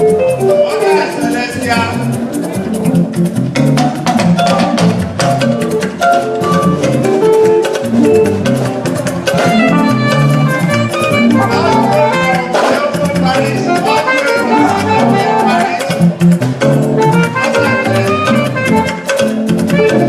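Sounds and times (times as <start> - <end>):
live band music: 0.0 - 20.0
steady percussion beat: 0.0 - 20.0.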